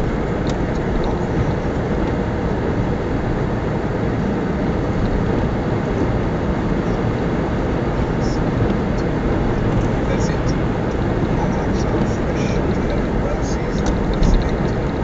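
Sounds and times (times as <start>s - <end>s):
van engine and tyres on snow: 0.0s - 15.0s.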